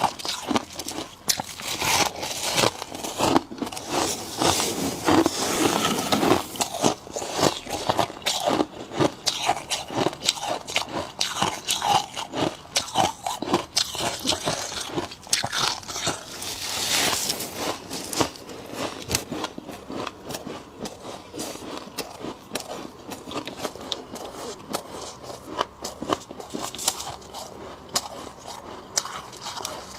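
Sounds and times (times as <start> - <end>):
frost being crunched and chewed: 0.0 - 29.9.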